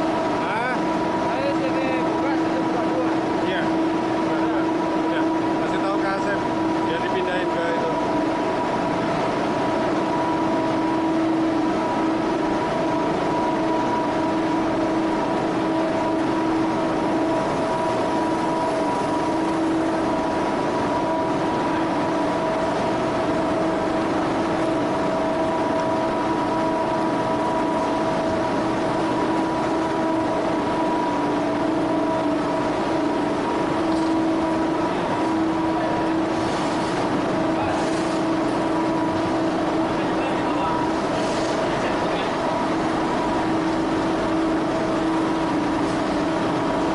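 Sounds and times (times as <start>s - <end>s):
multi-tone whine: 0.0s - 46.9s
vacuum loader running: 0.0s - 46.9s.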